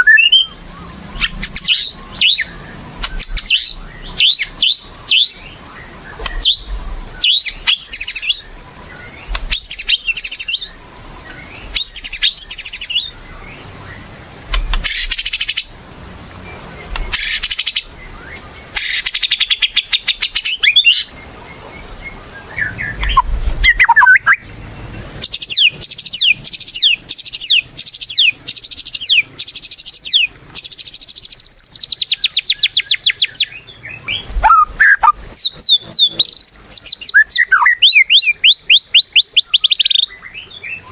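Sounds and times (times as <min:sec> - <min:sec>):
songbird whistling and chirping: 0:00.0 - 0:15.7, 0:16.5 - 0:40.9.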